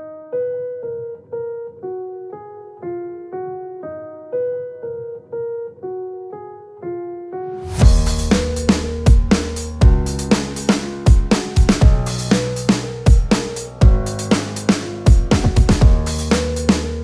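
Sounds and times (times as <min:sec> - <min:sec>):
keyboard playing piano melody: 0:00.0 - 0:17.0.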